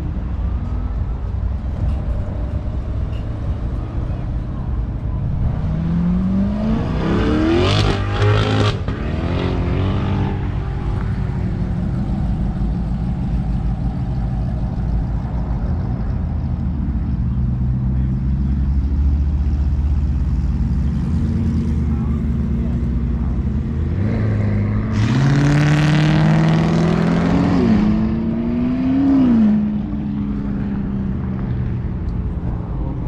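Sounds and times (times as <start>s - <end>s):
car engine accelerating hard: 0.0s - 33.0s
low engine drone: 0.0s - 33.0s.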